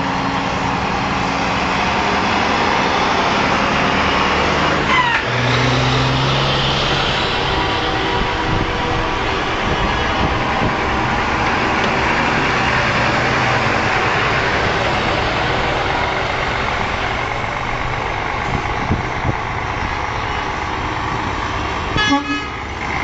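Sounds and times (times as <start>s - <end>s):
trucks driving past: 0.0s - 23.0s.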